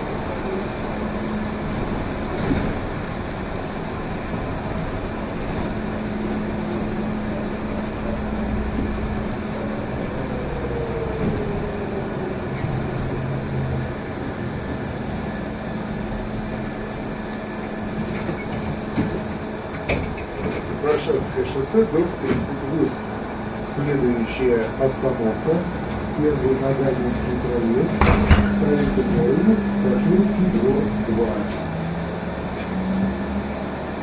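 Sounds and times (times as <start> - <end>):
road and running noise: 0.0 - 34.0.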